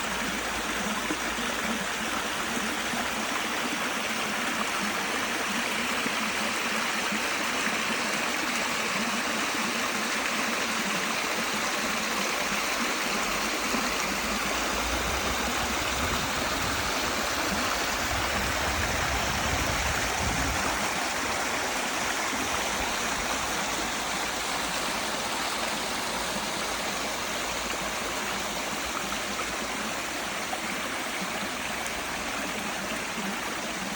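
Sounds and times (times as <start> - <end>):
stream running over rocks: 0.0 - 33.9.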